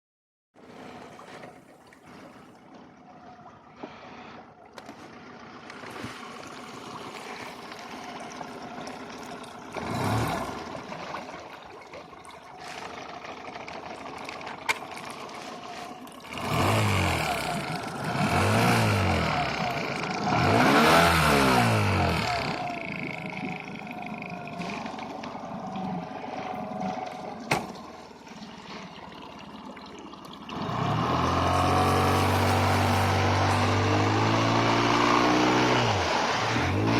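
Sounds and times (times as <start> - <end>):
outboard motor running: 0.6 - 29.3, 30.1 - 36.9
water splashing along hull: 0.6 - 36.8.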